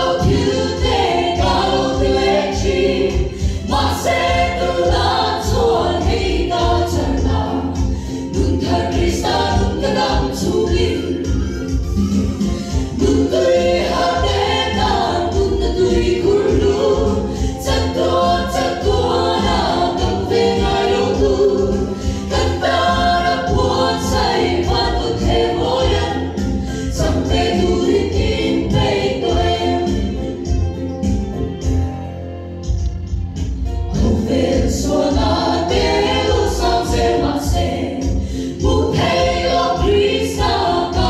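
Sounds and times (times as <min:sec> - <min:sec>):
women singing in harmony: 0:00.0 - 0:30.8, 0:33.9 - 0:41.0.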